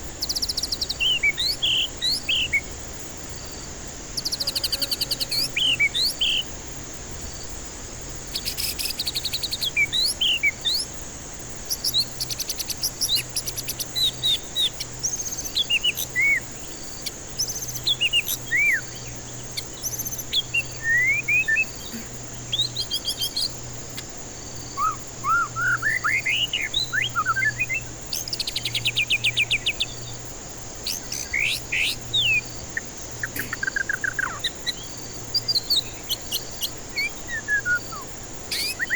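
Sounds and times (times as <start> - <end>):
songbird singing whistles and trills: 0.0 - 6.6, 8.3 - 11.0, 11.7 - 38.9.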